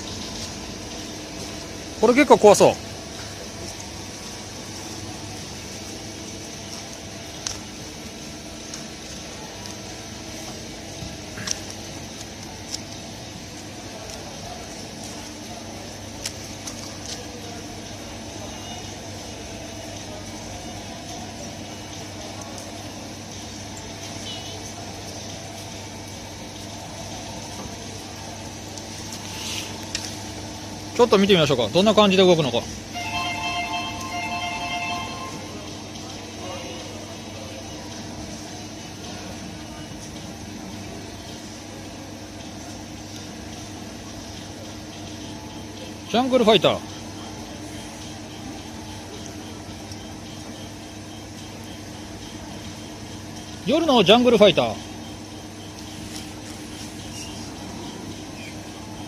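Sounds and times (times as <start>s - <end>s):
steady background hum and hiss: 0.0s - 59.0s.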